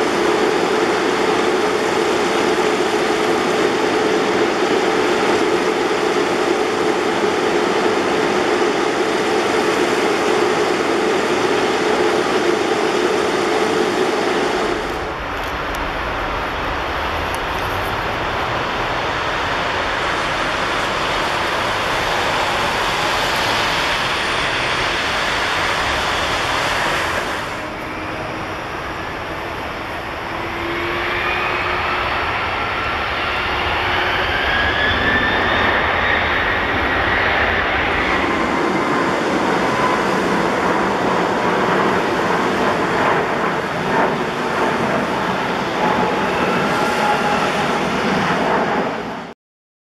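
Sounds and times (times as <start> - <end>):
jet engines whining: 0.0 - 49.4.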